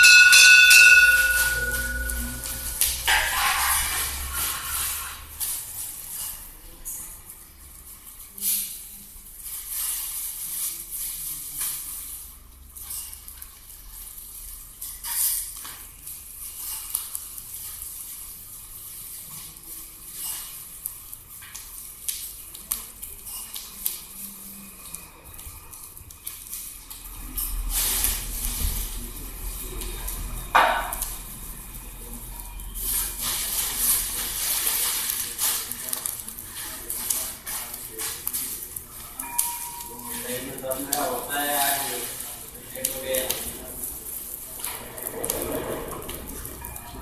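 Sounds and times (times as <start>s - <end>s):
fire crackling and hissing: 0.0s - 47.0s.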